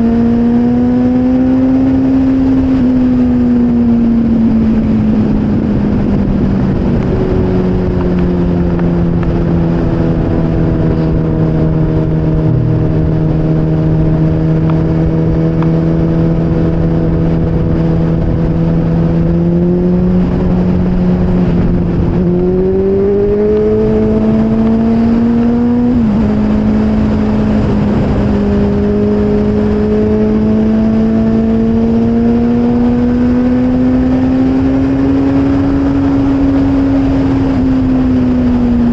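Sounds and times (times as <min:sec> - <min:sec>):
motorcycle engine accelerating: 0:00.0 - 0:38.9
noisy rush: 0:00.0 - 0:38.9.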